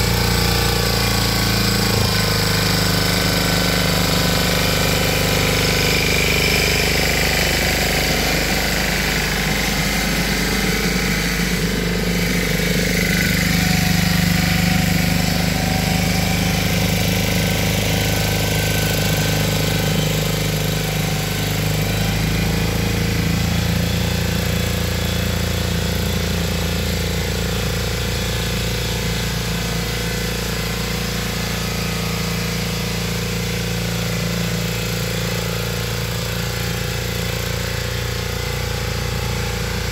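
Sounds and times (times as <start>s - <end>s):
tiller engine idling: 0.0s - 39.9s.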